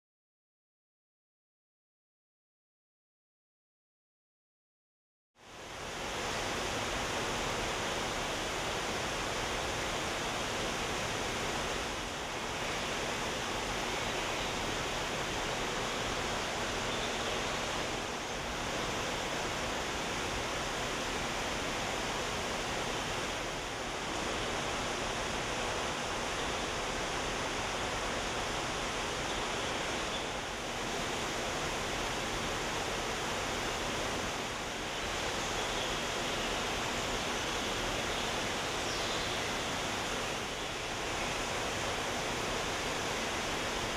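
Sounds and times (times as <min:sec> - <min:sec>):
small waterfall rushing: 0:05.4 - 0:43.9.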